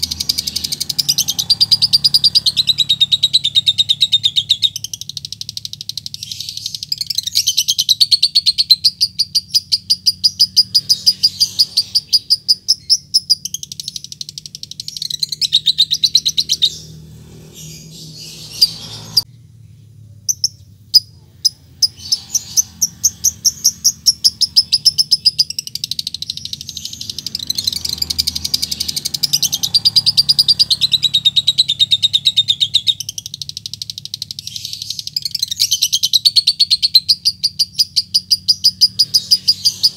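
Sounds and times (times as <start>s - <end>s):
lovebird rapid chattering trill: 0.0s - 17.0s, 20.3s - 39.9s.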